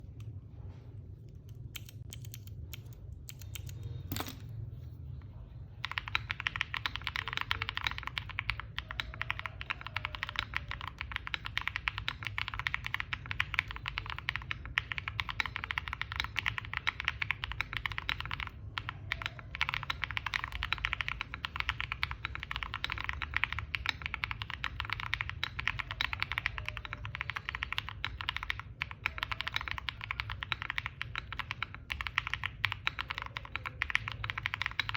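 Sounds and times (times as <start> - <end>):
steady low hum: 0.0 - 34.9
mechanical keyboard typing: 1.6 - 4.4, 5.8 - 34.9.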